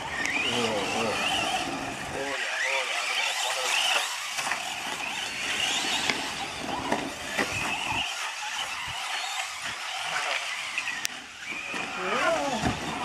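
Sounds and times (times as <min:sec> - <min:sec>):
rc truck motors whining: 0:00.0 - 0:13.0
tyres on gravel: 0:00.0 - 0:13.0.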